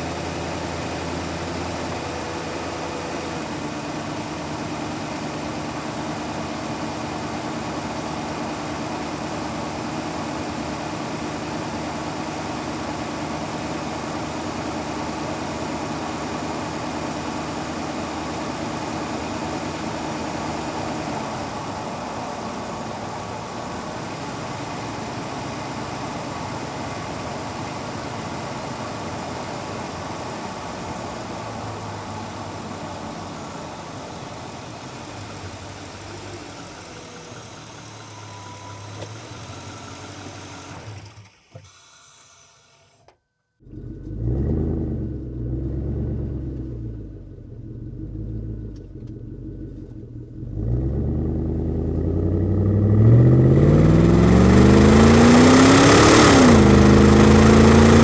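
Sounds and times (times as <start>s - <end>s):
car engine idling: 0.0s - 41.5s, 45.0s - 58.0s.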